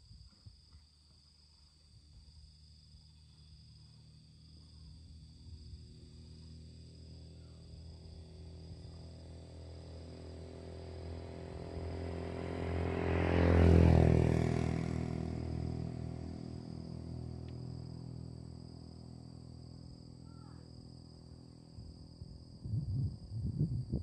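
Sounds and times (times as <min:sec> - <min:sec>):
vehicle engine passing by: 0:03.6 - 0:23.7.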